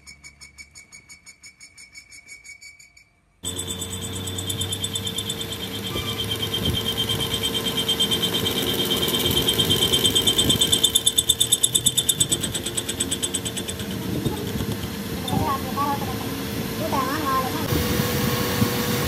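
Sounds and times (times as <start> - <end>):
metal lathe cutting steel: 3.4 - 19.0.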